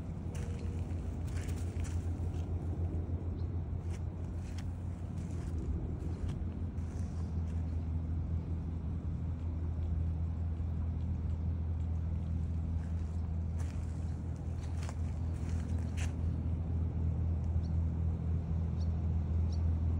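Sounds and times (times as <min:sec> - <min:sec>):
low mechanical hum: 0:00.0 - 0:19.9.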